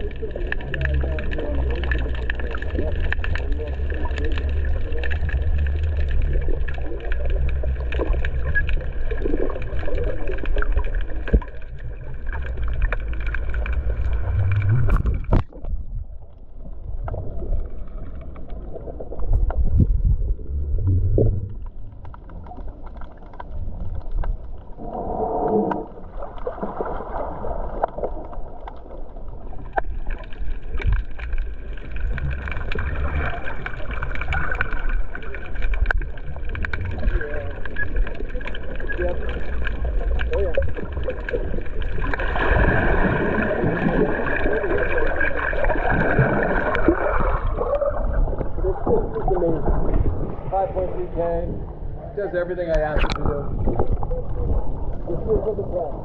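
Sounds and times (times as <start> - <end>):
water moving against camera housing: 0.0 - 51.6, 52.2 - 56.0
muffled underwater rumble: 0.0 - 56.0.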